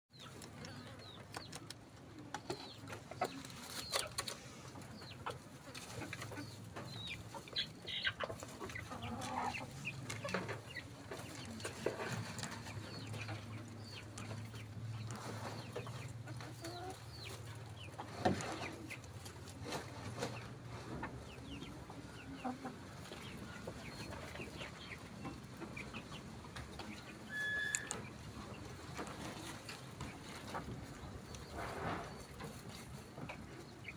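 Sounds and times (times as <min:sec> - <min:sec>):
chickens clucking: 0:00.1 - 0:33.9.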